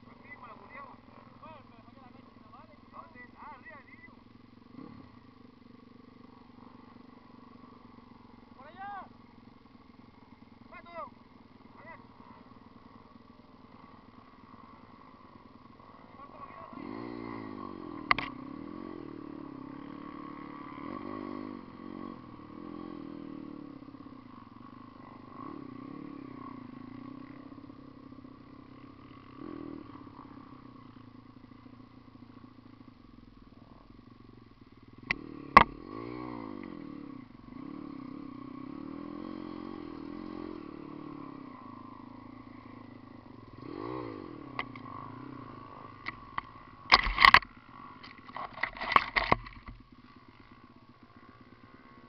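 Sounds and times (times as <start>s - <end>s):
dirt bike engine: 0.0s - 52.0s.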